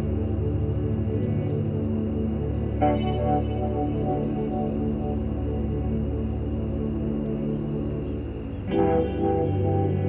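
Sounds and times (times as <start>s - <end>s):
music of sustained notes: 0.0s - 10.0s.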